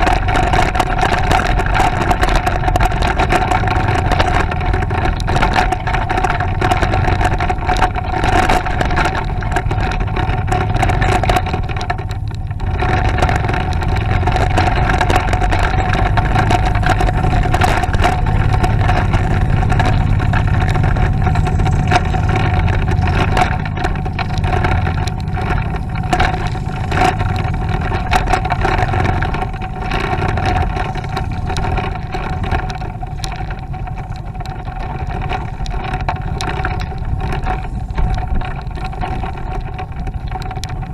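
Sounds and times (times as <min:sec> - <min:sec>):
low wind: 0:00.0 - 0:40.9
motorcycle engine running: 0:00.0 - 0:40.9
road rumble: 0:00.0 - 0:40.9.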